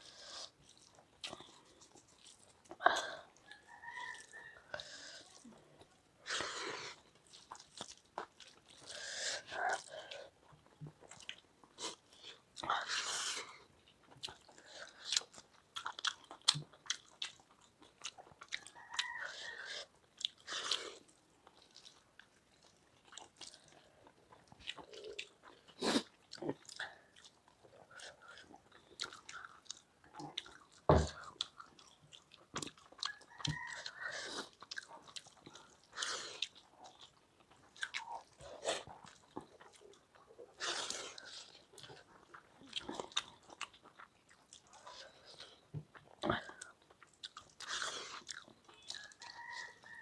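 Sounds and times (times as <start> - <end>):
people chewing food: 0.0 - 50.0.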